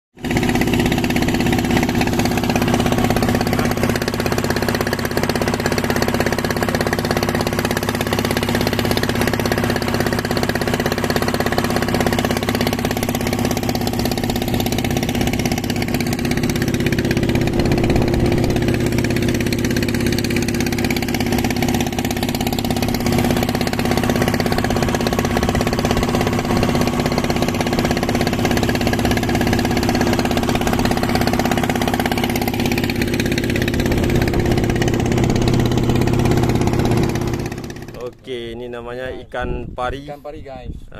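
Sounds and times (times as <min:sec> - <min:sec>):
boat engine running: 0:00.2 - 0:38.6
water rushing along hull: 0:00.4 - 0:37.9.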